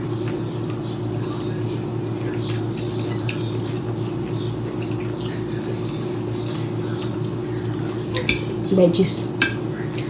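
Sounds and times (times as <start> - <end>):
wet chewing and lip-smacking: 0.0 - 8.5.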